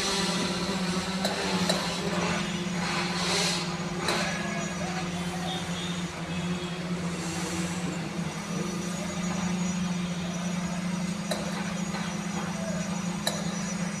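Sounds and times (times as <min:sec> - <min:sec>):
train rumbling drone: 0:00.0 - 0:14.0.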